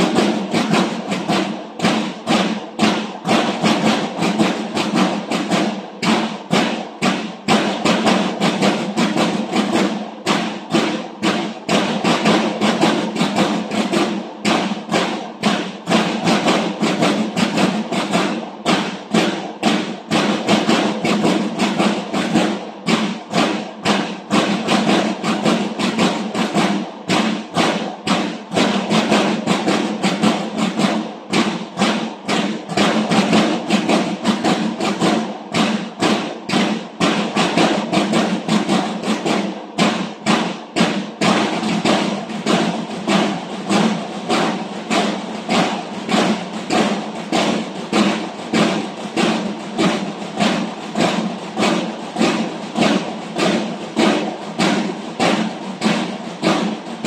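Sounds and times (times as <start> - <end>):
marching drums playing a cadence: 0.0 - 57.0.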